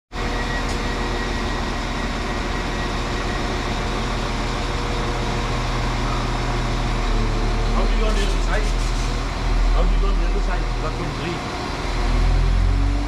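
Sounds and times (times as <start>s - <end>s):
train engine idling hum: 0.1s - 12.6s.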